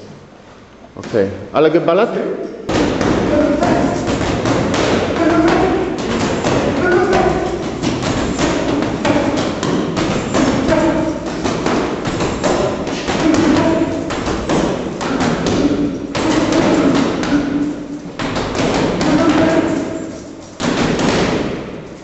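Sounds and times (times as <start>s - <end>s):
gloves thudding on punching bags: 2.7s - 22.0s.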